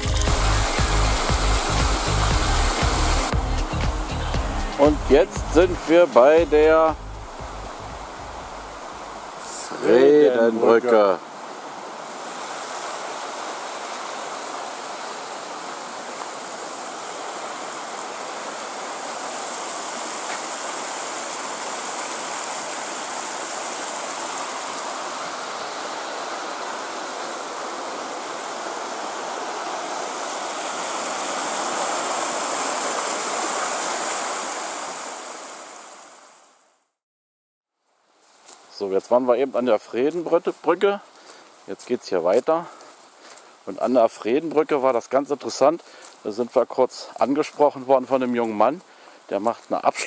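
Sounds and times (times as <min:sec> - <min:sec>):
mountain stream rushing: 0:00.0 - 0:36.8, 0:38.2 - 0:50.0.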